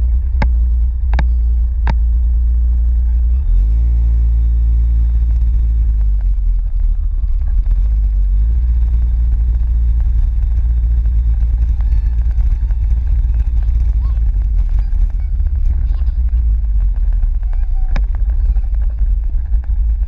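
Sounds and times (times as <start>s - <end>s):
low wind noise: 0.0s - 20.0s
vehicle engine rumble: 0.0s - 20.0s.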